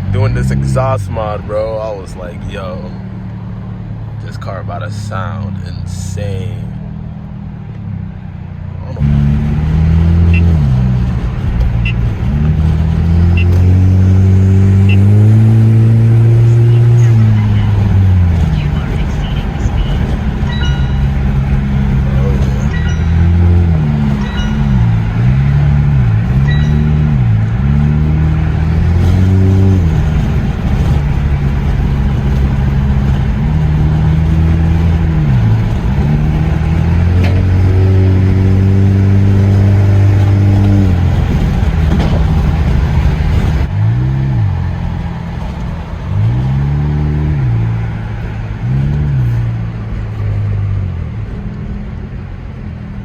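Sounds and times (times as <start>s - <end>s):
car engine revving loudly: 0.0s - 3.6s, 8.8s - 51.4s.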